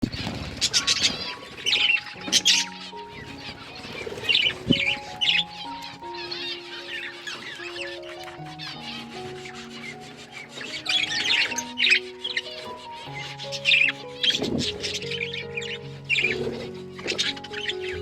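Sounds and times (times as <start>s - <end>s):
budgerigars chirping and warbling: 0.0s - 18.0s
soft background music: 0.1s - 18.0s.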